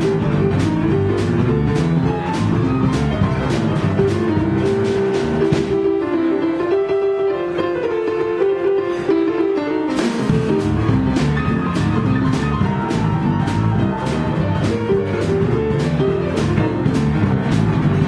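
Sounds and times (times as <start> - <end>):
drum kit beat: 0.0 - 6.5, 9.3 - 18.0
bass: 0.0 - 18.0
digital piano: 0.0 - 18.0.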